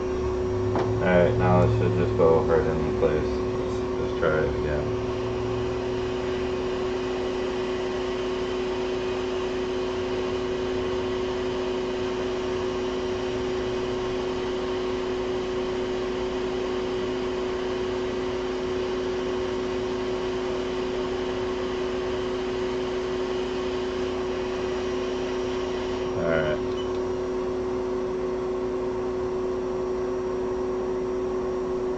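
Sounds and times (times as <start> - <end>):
hot air station blowing: 0.0 - 28.7.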